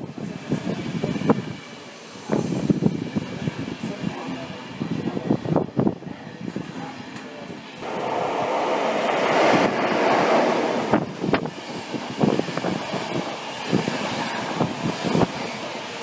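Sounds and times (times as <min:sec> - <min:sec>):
passenger coaches rumbling past: 0:00.0 - 0:16.0.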